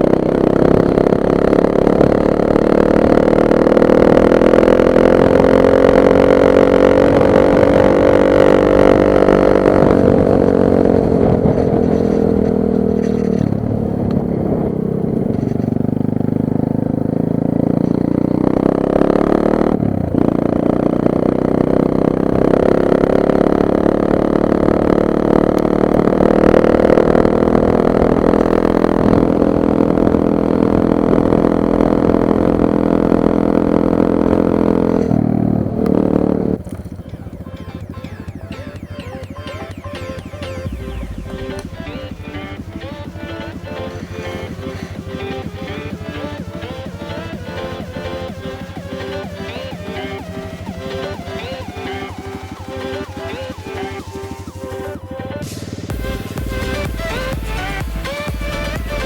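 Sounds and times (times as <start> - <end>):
motorbike engine running: 0.0 - 59.0.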